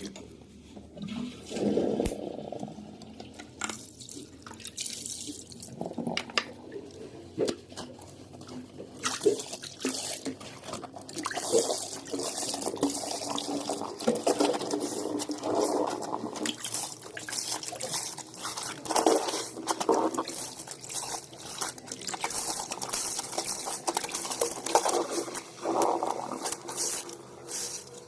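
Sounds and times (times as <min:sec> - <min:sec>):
water sloshing and splashing: 0:00.9 - 0:28.0.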